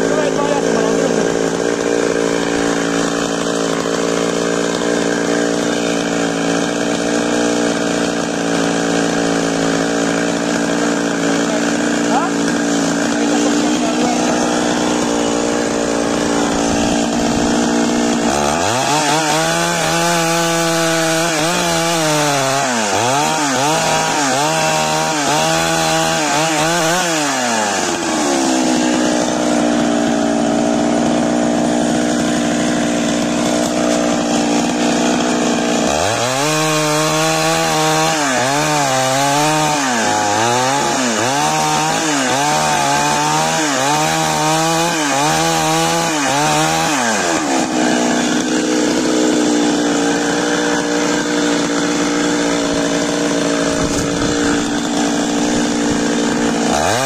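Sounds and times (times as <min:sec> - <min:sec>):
chainsaw cutting through log: 0:00.0 - 0:57.0
chainsaw idling: 0:00.0 - 0:57.0.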